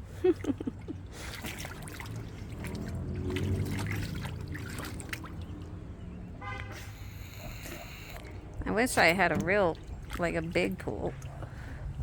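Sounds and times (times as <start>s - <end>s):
water splashing in a pool: 0.0s - 12.0s.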